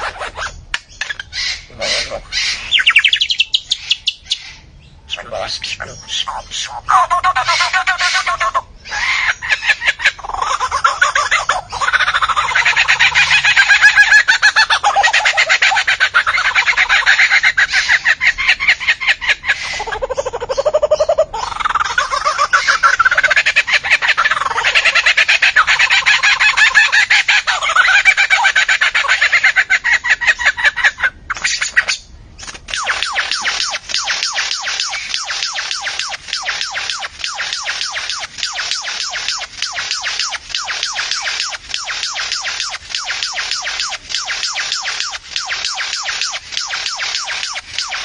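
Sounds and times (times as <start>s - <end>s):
bird calling repeated notes: 0.0s - 48.0s.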